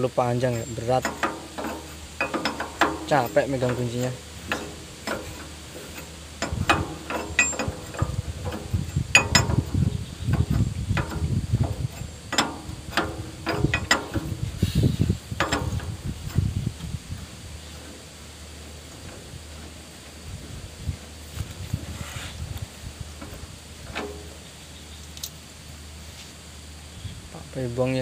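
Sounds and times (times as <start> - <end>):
spanner clicking and clanking on metal: 0.0 - 21.9, 22.6 - 25.4.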